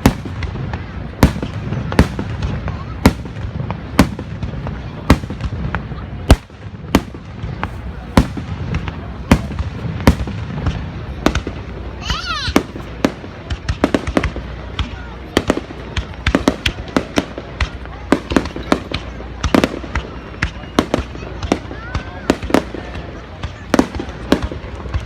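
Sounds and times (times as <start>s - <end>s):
firework whistling: 0.0s - 25.0s
fireworks bangs: 0.0s - 25.0s.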